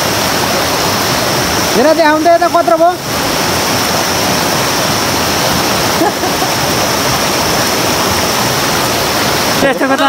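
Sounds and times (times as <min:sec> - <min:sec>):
stream rushing over rapids: 0:00.0 - 0:10.0.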